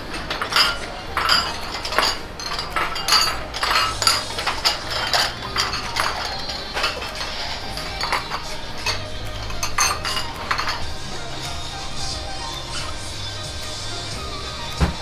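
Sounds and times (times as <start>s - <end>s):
metal utensils clattering on pots: 0.0s - 15.0s.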